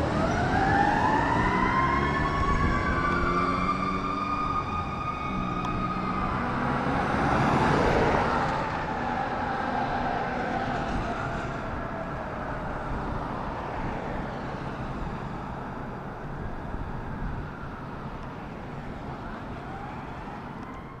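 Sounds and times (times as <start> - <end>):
fire truck siren wailing: 0.0 - 21.0
road rumble: 0.0 - 21.0.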